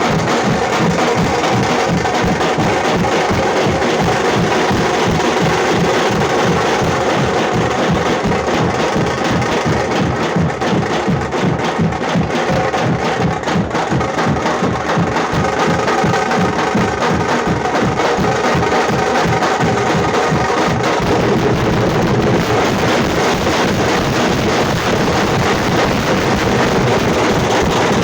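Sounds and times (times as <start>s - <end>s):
frame drum beaten with sticks: 0.0s - 28.0s.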